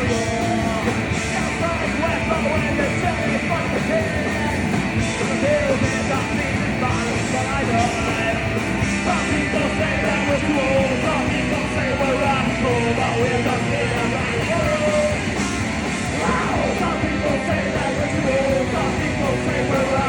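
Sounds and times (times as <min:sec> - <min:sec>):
person shouting singing: 0:00.0 - 0:15.2, 0:16.1 - 0:20.0
punk rock band playing: 0:00.0 - 0:20.0.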